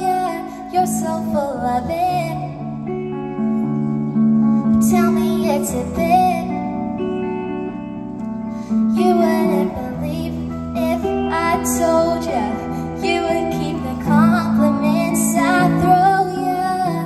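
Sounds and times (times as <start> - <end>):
girl singing: 0.0 - 3.4, 4.6 - 7.8, 8.9 - 17.0
guitar chords: 0.0 - 17.0.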